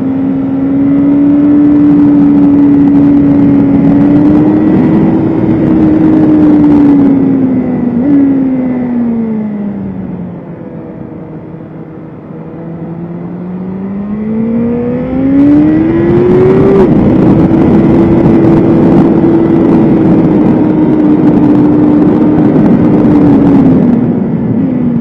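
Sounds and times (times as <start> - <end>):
motorcycle engine accelerating: 0.0 - 25.0
wind noise: 0.0 - 25.0.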